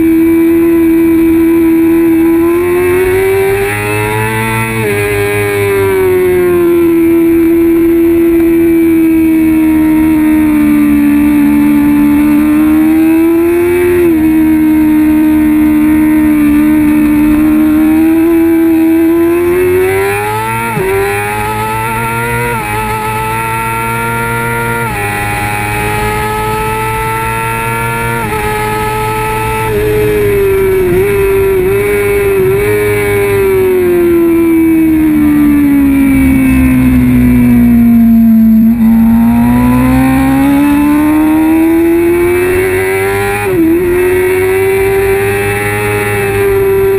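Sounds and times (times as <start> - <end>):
motorcycle engine at high revs: 0.0 - 46.9.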